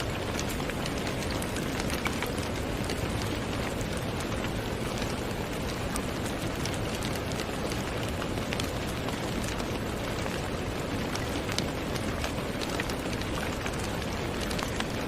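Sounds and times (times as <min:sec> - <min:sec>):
rain falling: 0:00.0 - 0:15.0
raindrops ticking on surface: 0:00.0 - 0:15.0.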